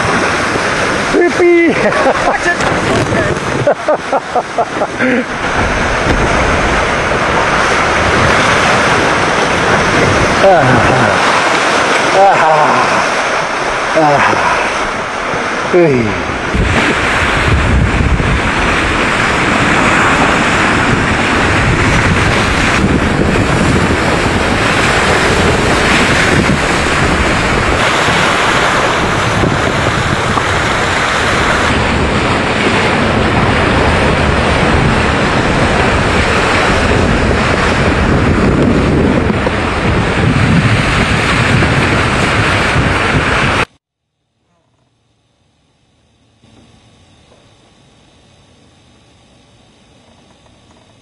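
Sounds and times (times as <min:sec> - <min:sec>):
wind buffeting microphone: 0:00.0 - 0:43.8
water splashing along hulls: 0:00.0 - 0:44.8.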